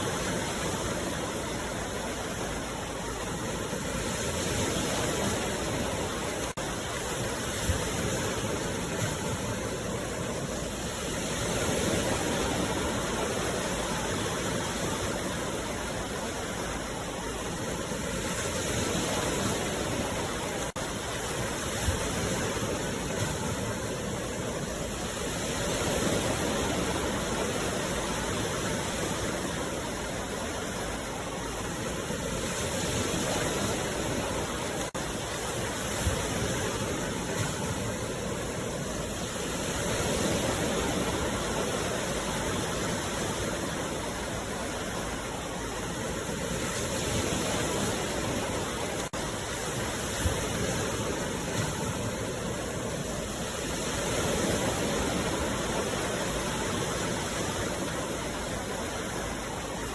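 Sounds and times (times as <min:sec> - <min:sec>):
sea waves surf rushing: 0:00.0 - 0:59.9.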